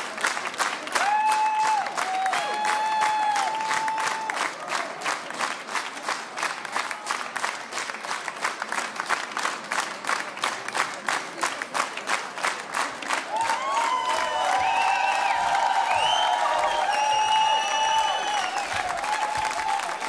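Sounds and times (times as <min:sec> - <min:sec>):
crowd applauding: 0:00.0 - 0:20.0.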